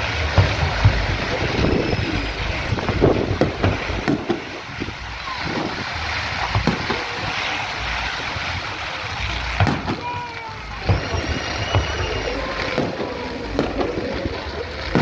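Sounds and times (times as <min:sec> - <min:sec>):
fireworks bangs: 0:00.0 - 0:15.0
wind buffeting microphone: 0:00.0 - 0:15.0.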